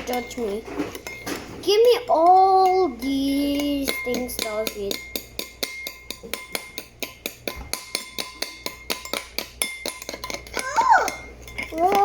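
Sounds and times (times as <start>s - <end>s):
fork beating egg in a bowl: 0.0s - 12.0s.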